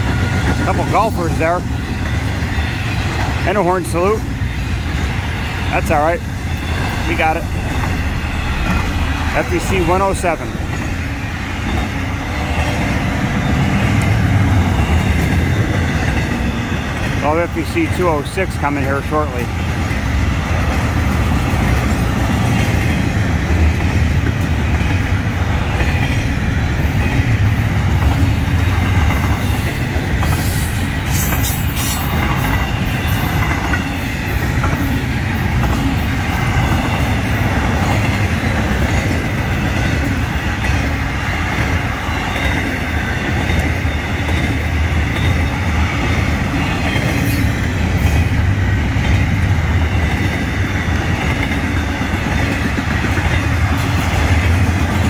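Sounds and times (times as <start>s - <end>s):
steel wheels rumbling on rail: 0.0s - 55.0s
train cars clicking and clanking: 0.0s - 55.0s.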